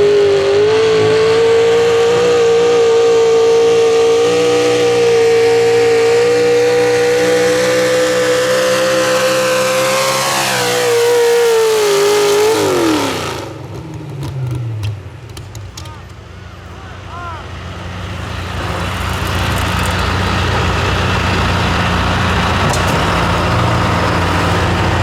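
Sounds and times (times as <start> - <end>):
truck engine at high revs: 0.0 - 25.0.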